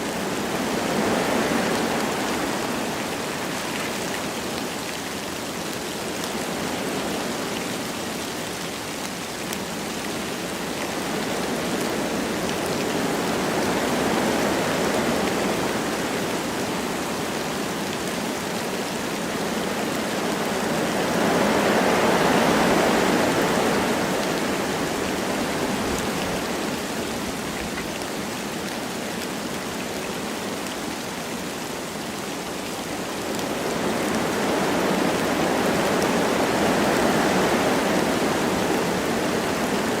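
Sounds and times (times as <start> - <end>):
light rain falling: 0.0 - 40.0
wind blowing through trees: 0.0 - 40.0.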